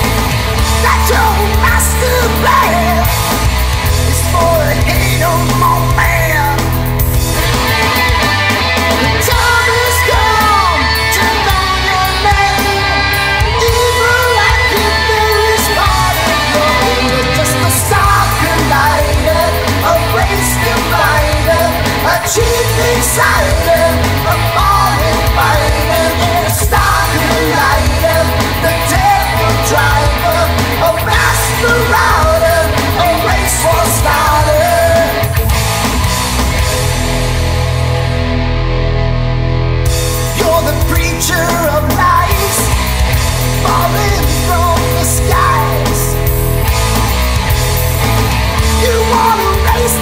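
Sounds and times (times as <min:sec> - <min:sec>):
bending lead melody: 0:00.0 - 0:50.0
hard rock band: 0:00.0 - 0:50.0.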